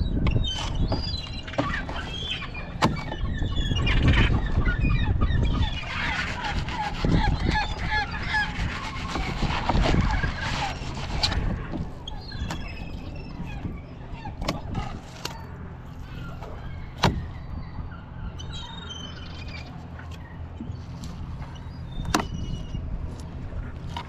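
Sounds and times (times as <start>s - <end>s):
small birds chirping: 0.0s - 23.7s
steady low rumble: 2.3s - 24.0s.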